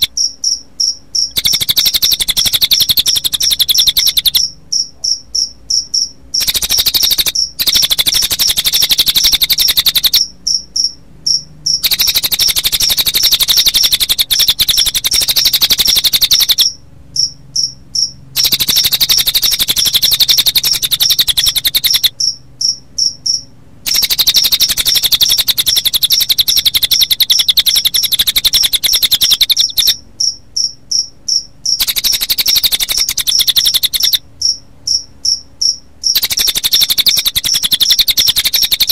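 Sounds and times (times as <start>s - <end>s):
bird trilling: 0.0s - 38.9s
crickets chirping: 0.0s - 38.9s.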